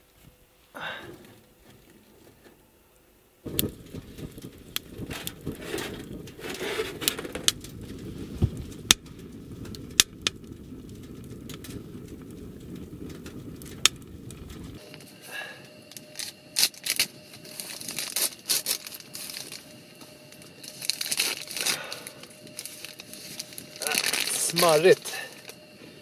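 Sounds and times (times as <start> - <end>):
wood crackling and popping: 0.9 - 26.0
fire rushing in a stove: 3.4 - 26.0.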